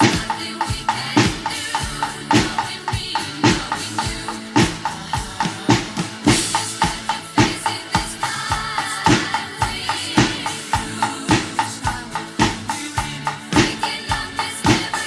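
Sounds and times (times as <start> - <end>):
bass drum and snare accents: 0.0 - 15.0
percussion ensemble playing: 0.0 - 15.0.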